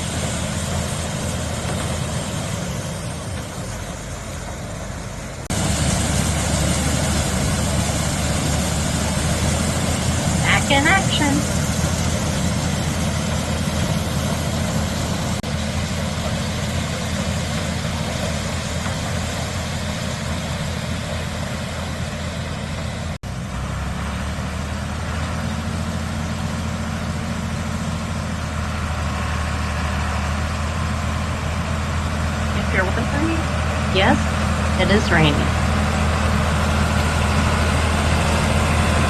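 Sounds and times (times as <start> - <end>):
tractor running under load: 0.0 - 39.0.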